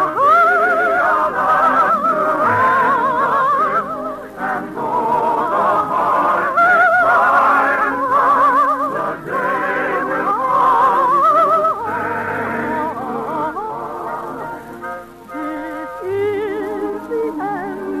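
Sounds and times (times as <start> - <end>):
operetta singing with orchestra: 0.0 - 18.0.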